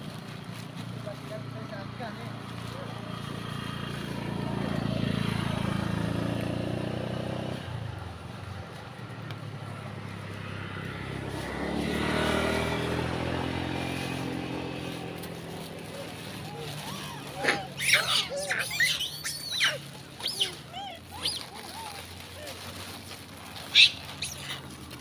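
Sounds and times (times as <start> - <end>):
vehicles passing on road: 0.0 - 25.0.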